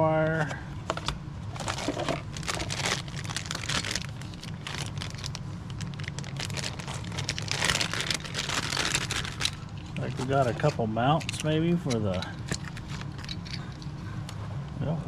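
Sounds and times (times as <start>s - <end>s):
steady low hum: 0.0s - 15.0s
plastic packaging crinkling: 1.0s - 13.5s.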